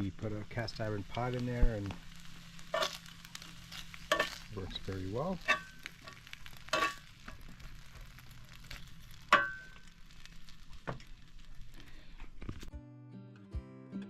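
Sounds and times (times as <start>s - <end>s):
food sizzling in a pot: 0.0s - 12.7s.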